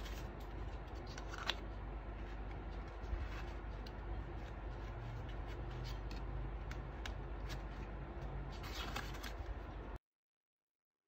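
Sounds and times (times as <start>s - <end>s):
paper pages clicking and tapping: 0.0s - 9.6s
steady low hum: 0.0s - 10.0s.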